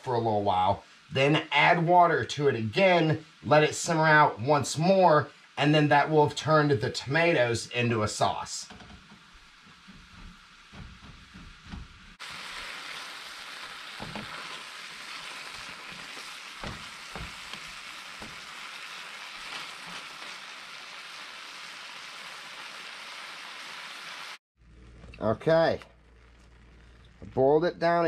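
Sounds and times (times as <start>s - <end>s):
sauce sizzling in a frying pan: 0.2s - 24.4s.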